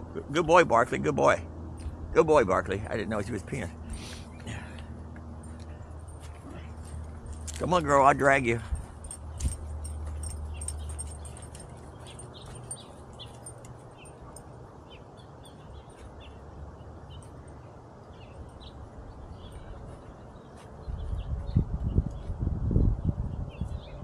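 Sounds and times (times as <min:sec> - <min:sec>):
small birds chirping: 0:02.6 - 0:24.0.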